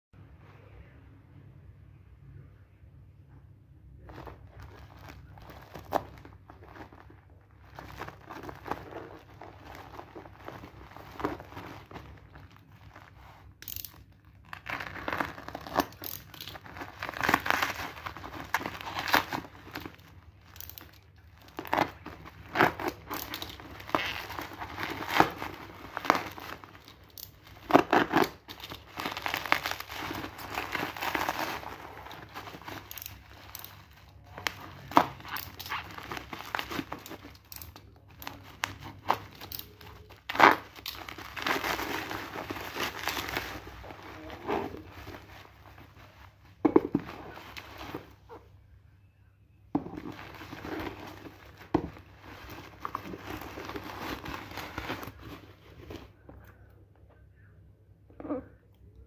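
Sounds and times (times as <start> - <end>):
plastic wrapping crinkling and tearing: 4.0 - 48.3, 49.8 - 56.2.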